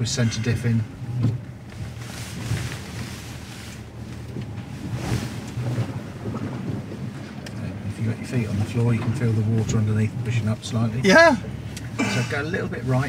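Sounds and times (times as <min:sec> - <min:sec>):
engine humming: 0:00.0 - 0:13.0
water splashing against vehicle: 0:00.0 - 0:13.0.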